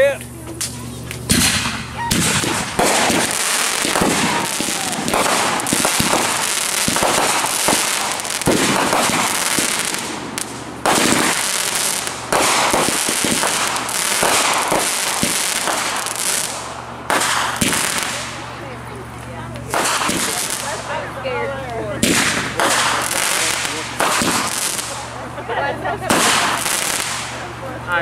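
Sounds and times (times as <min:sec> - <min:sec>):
loud firework bursts: 0:00.0 - 0:21.2, 0:21.9 - 0:27.9
fireworks crackling: 0:00.0 - 0:28.0.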